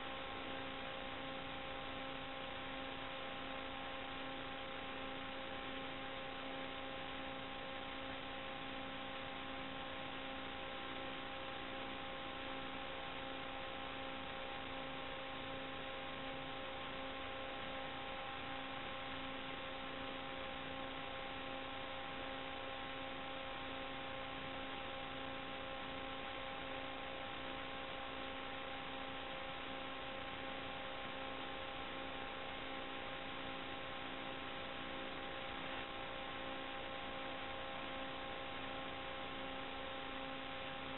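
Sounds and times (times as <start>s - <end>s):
electrical hiss and hum: 0.0s - 40.9s.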